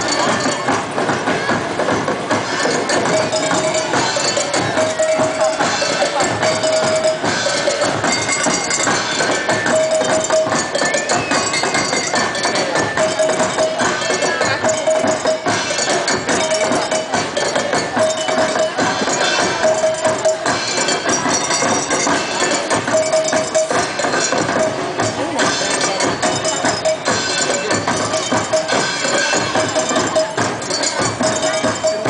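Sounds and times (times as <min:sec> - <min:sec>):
crowd voices: 0:00.0 - 0:32.0
drum and percussion dance music: 0:00.0 - 0:32.0.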